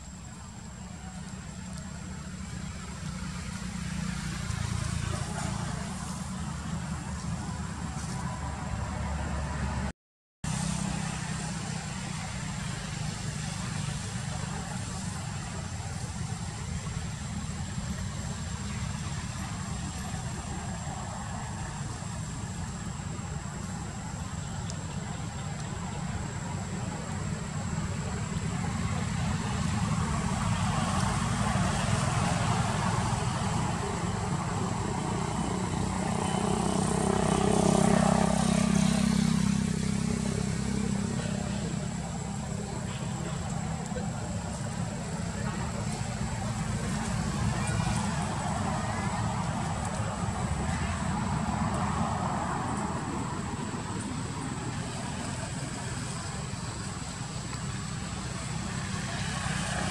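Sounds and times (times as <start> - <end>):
vehicle engine running: 10.5 - 59.9.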